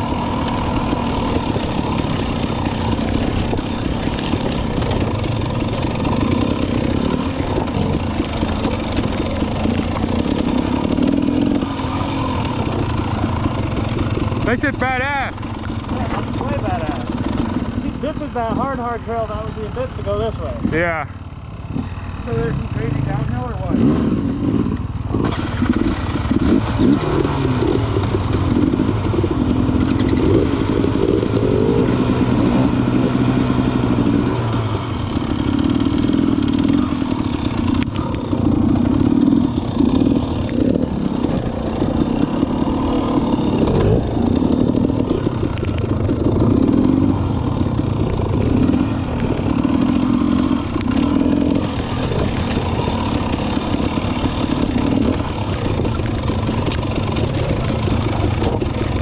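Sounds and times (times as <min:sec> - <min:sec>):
bike rattling: 0:00.0 - 0:59.0
two-stroke dirt bike engine revving: 0:00.0 - 0:59.0.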